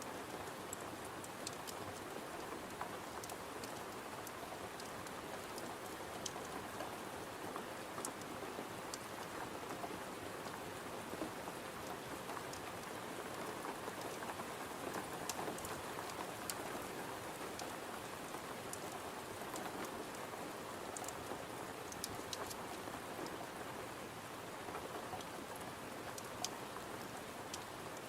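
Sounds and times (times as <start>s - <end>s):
rain tapping on a window: 0.1s - 28.0s.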